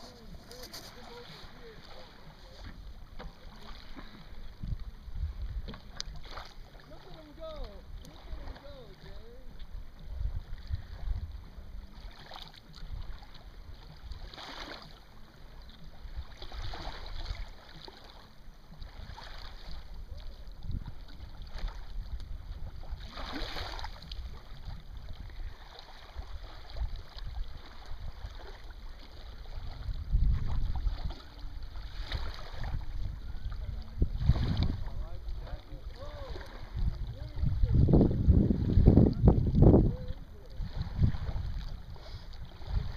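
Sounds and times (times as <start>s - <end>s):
wind rumble on microphone: 0.0s - 15.0s, 18.7s - 42.9s
water lapping against hull: 0.0s - 42.9s.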